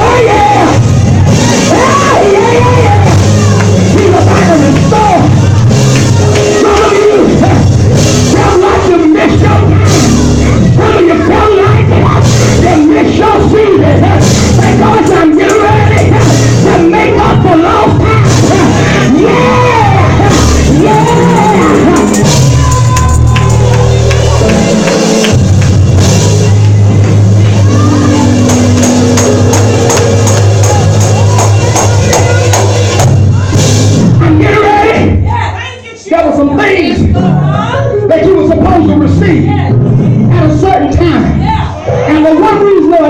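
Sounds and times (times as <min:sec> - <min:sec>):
live gospel band music: 0:00.0 - 0:35.5.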